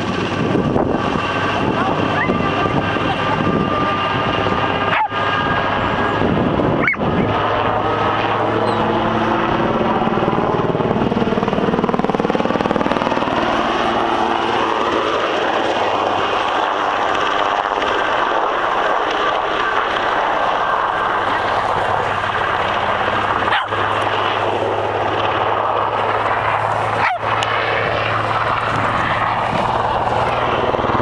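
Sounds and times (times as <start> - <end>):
helicopter flying overhead: 0.0 - 31.0.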